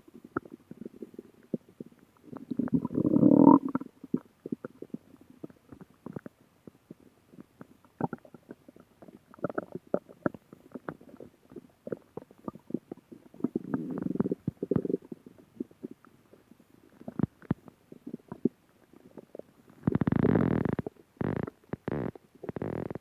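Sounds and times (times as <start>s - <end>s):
stomach growling: 0.1s - 23.0s.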